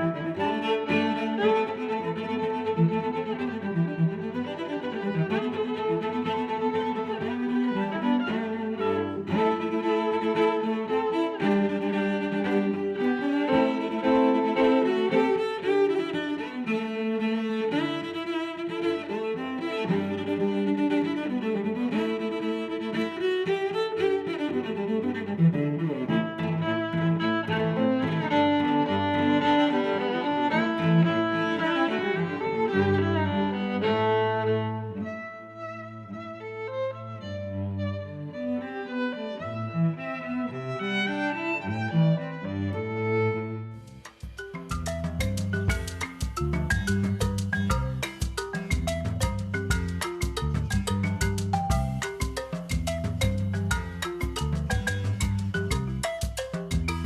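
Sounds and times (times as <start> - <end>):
bowed strings music: 0.0 - 57.0.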